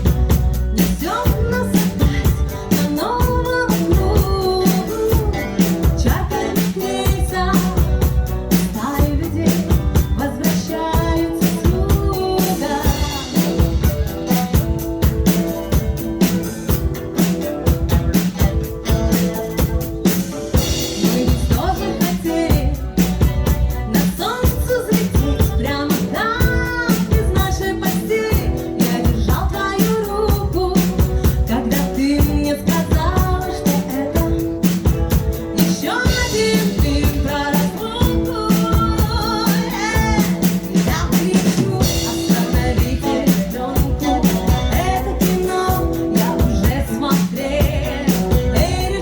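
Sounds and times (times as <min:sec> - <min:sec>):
drum kit beat: 0:00.0 - 0:49.0
person singing: 0:00.0 - 0:49.0.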